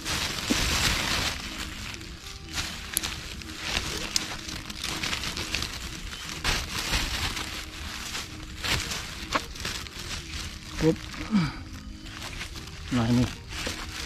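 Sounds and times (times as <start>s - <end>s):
dry fibres crackling and rustling: 0.0s - 14.0s.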